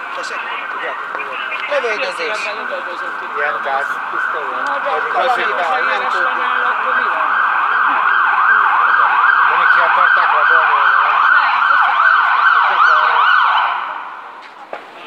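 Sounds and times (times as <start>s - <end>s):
emergency siren yelping: 0.0s - 14.3s.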